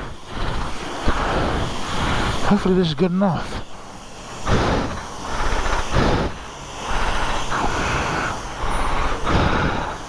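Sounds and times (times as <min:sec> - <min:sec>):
jet-wash spray hissing: 0:00.0 - 0:10.0.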